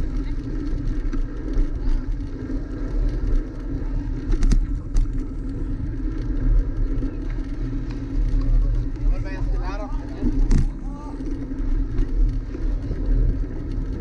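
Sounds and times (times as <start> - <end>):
tyre and wind rumble: 0.0 - 14.0.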